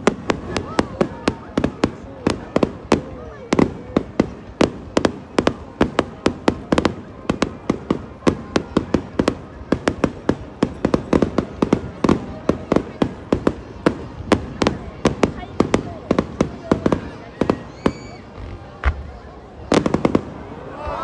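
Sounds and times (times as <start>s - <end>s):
fireworks bangs: 0.0s - 20.7s.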